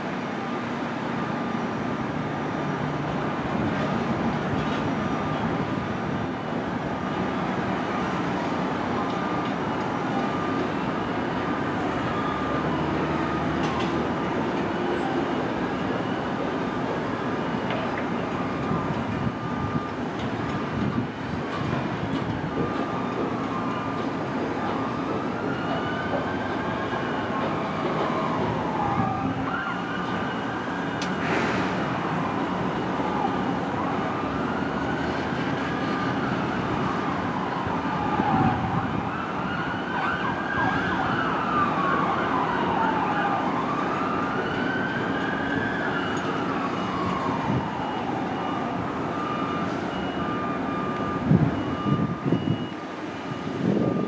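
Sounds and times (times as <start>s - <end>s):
emergency vehicle siren wailing: 0.0s - 54.0s.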